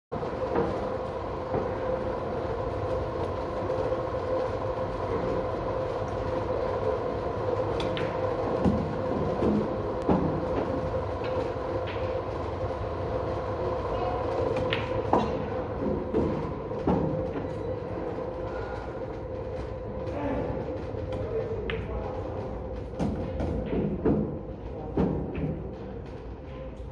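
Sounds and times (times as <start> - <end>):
mechanical hum: 0.1 - 26.9.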